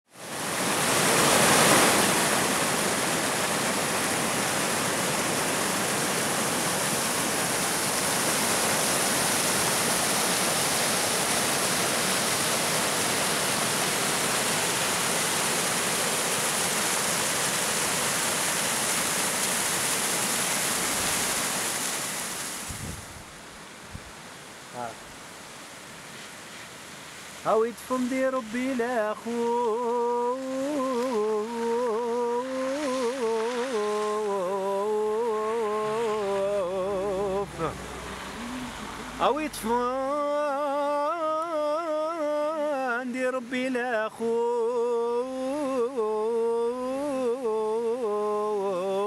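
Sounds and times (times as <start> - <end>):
stream rushing over rocks: 0.1 - 49.0.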